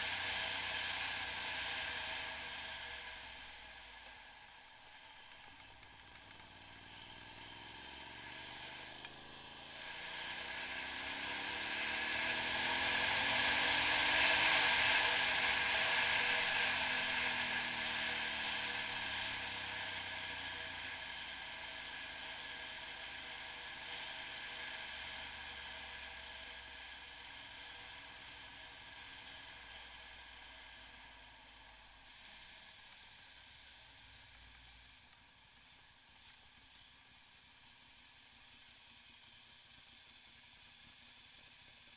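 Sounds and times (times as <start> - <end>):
motorcycle engine accelerating: 0.0 - 35.6
wind and road noise: 0.0 - 41.9.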